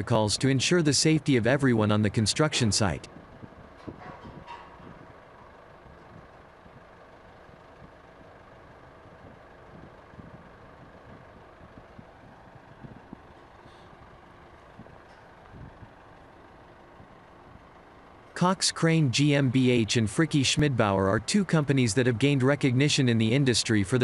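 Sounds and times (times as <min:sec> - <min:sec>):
heavy equipment engines rumbling: 0:00.0 - 0:24.0.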